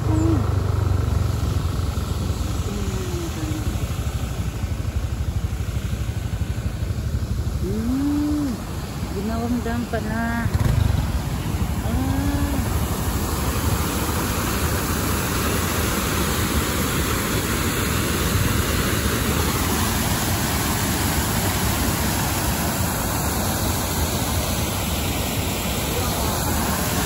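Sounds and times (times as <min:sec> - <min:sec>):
vehicle road noise: 0:00.0 - 0:27.0.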